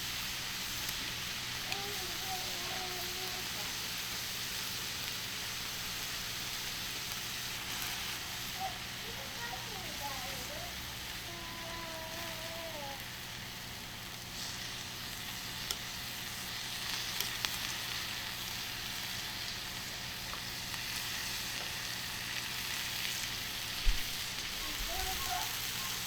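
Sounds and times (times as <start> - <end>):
beef sizzling on griddle: 0.0 - 26.0.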